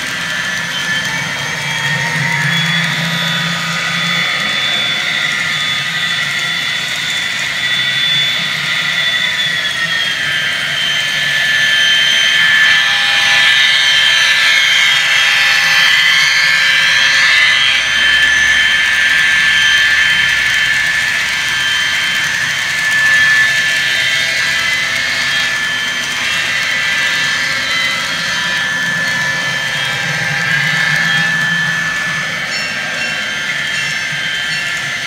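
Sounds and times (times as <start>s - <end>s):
model train engine sound: 0.0s - 35.0s.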